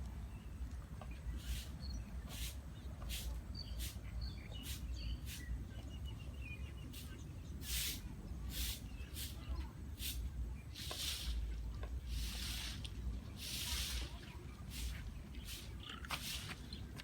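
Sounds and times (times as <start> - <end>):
faint bird chirps: 0.2 - 16.9.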